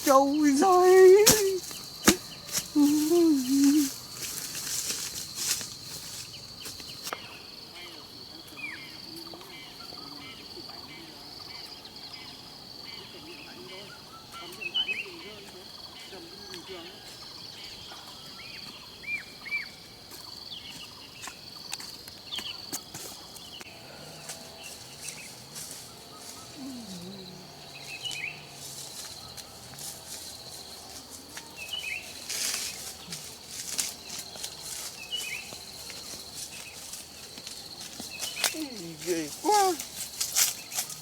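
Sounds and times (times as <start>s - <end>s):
birds chirping: 0.0s - 41.0s
high insect drone: 0.0s - 41.0s.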